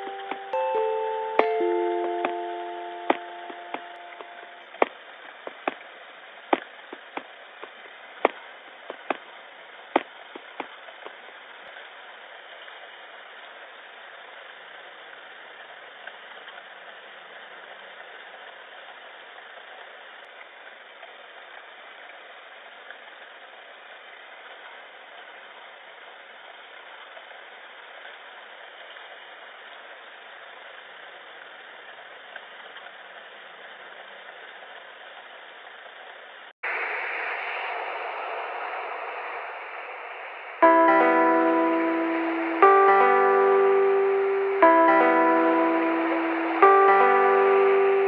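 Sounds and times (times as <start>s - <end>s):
static-like hiss: 0.0s - 48.0s.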